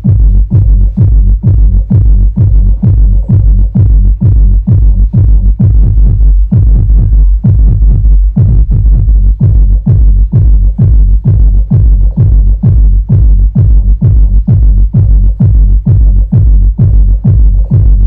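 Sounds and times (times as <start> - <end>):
deep bass: 0.0 - 18.0
electronic dance music: 0.0 - 18.0
heavy kick drum: 0.0 - 18.0.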